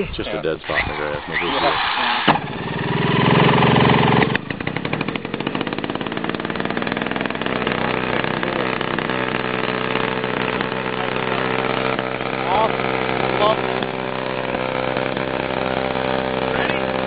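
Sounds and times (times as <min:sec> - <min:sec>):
model airplane engine running: 0:00.7 - 0:17.0.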